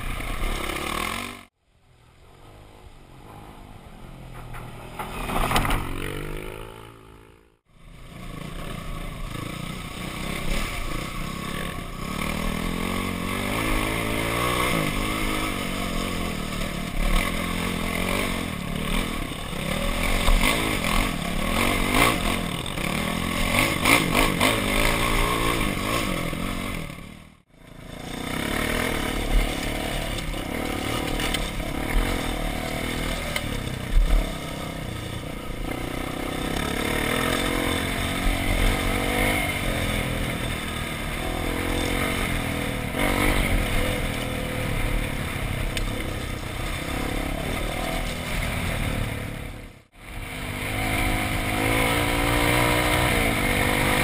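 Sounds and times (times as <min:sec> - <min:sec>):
dirt bike engine revving: 0:00.0 - 0:01.5, 0:04.4 - 0:54.0.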